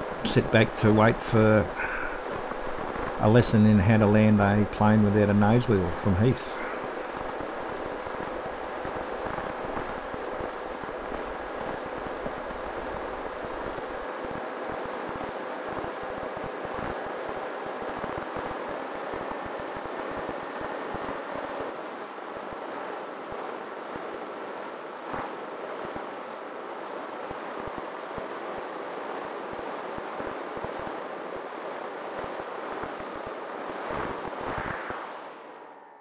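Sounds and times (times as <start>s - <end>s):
faint motor whine: 0.0s - 36.0s.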